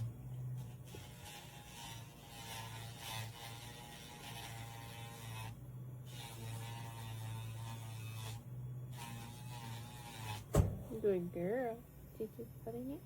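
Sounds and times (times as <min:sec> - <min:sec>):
electric nail grinder buzzing: 0:00.0 - 0:11.3.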